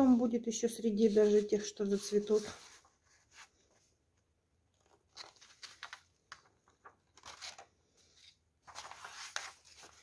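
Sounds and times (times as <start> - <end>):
paper sheets rustling: 0.9 - 4.0, 4.8 - 10.0.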